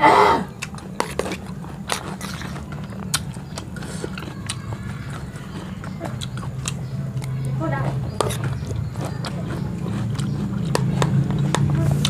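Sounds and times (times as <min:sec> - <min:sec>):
man chewing food: 0:00.0 - 0:12.0.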